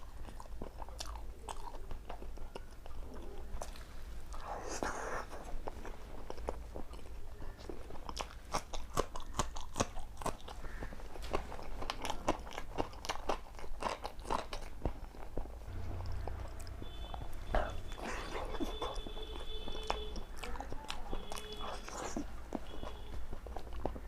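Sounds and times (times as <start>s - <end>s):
person crunching and chewing: 0.0s - 24.0s.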